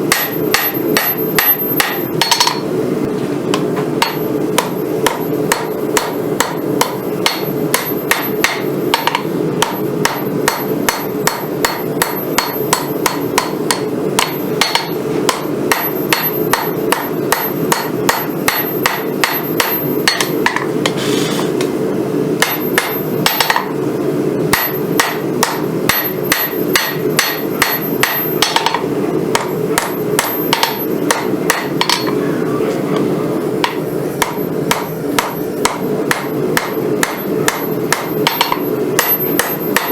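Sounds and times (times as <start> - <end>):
hammer striking steel on anvil: 0.0 - 2.7, 3.5 - 21.0, 22.4 - 23.8, 24.5 - 32.2, 33.6 - 39.9
steady low hum: 0.0 - 39.9.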